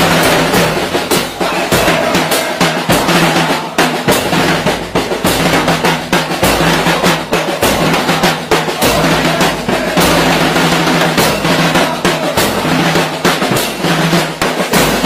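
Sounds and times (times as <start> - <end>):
drum band playing rapid beat: 0.0 - 15.0.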